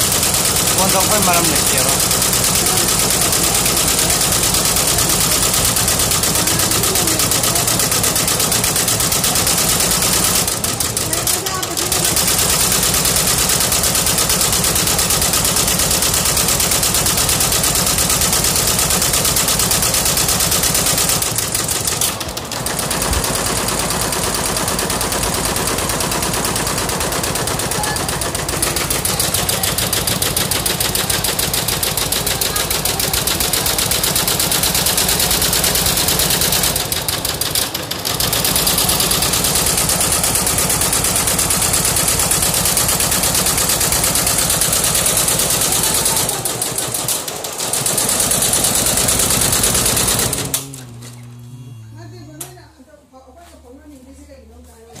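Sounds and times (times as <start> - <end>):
embroidery machine clattering: 0.0 - 51.6.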